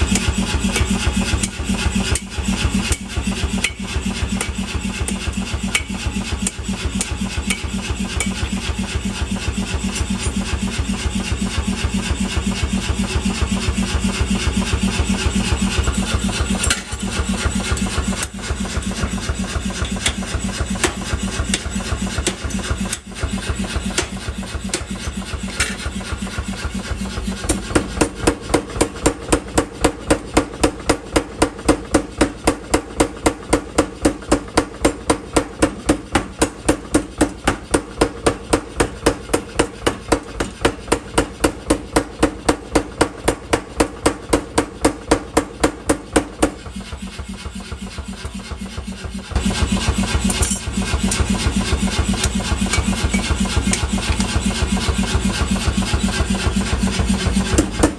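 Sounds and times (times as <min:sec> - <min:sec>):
motor running: 0:00.0 - 0:57.9
power hammer striking hot steel: 0:00.0 - 0:57.9.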